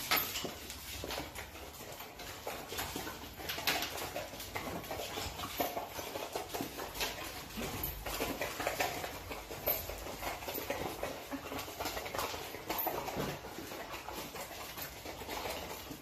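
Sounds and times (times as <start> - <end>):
dogs crunching dry kibble: 0.0 - 16.0.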